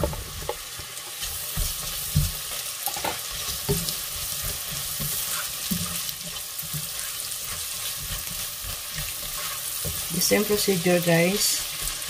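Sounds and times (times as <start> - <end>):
sausage and onions sizzling in butter: 0.0 - 12.0
spatula knocking and scraping pan: 0.0 - 12.0.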